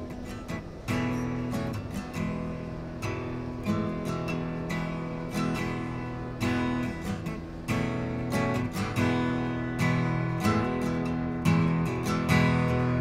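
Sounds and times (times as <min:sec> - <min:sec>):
guitar chords strummed: 0:00.0 - 0:13.0.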